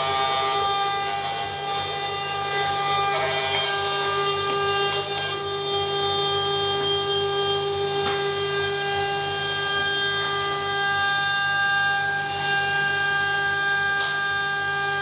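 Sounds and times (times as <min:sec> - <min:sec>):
router bit milling wood: 0:00.0 - 0:15.0
router spindle whining: 0:00.0 - 0:15.0.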